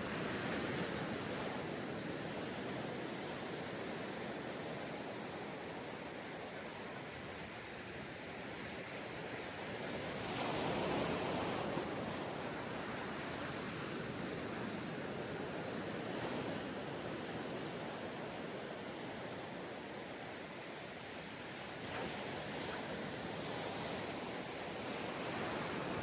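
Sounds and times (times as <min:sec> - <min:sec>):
ocean waves on beach: 0:00.0 - 0:26.0.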